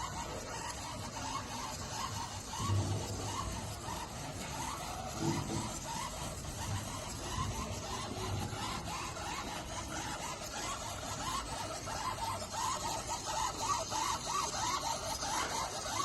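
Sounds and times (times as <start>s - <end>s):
wiper mechanism squeaking: 0.0s - 16.0s.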